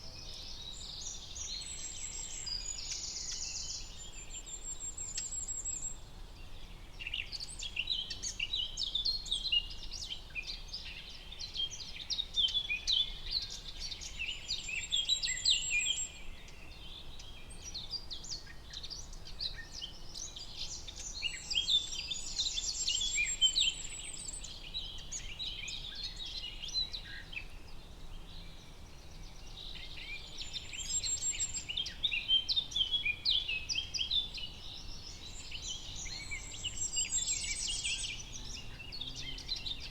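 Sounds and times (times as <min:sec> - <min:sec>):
low steady background hiss: 0:00.0 - 0:39.9.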